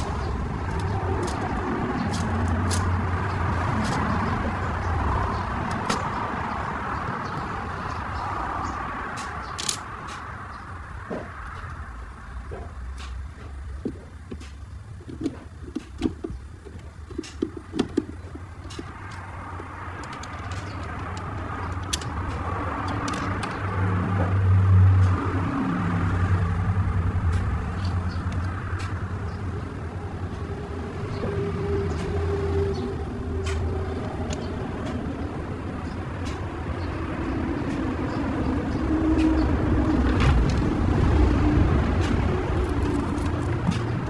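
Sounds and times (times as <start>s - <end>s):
low mechanical rumble: 0.0s - 44.0s.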